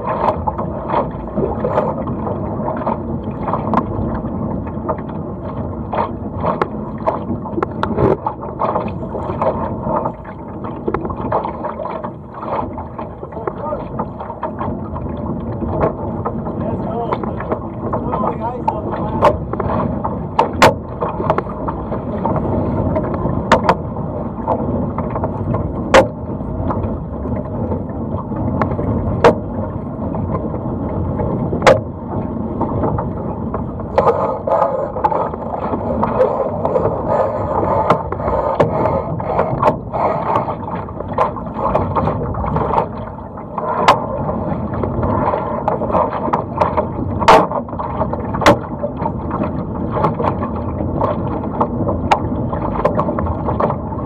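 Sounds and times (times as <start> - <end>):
hull slapping into waves: 0.0 - 54.0
water rushing along a hull: 0.0 - 54.0.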